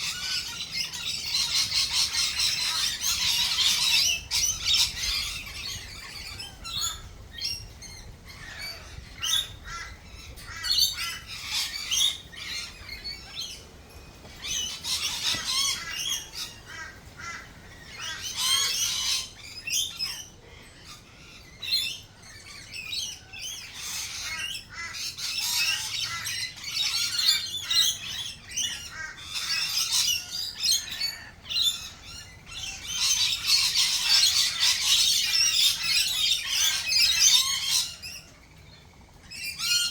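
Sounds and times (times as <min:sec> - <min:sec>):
birds calling in chorus: 0:00.0 - 0:39.9.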